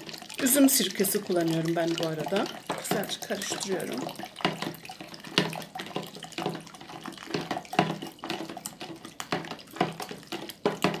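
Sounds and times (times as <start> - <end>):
liquid pouring into plastic jug: 0.0 - 11.0
spoon scraping plastic jug: 1.0 - 11.0.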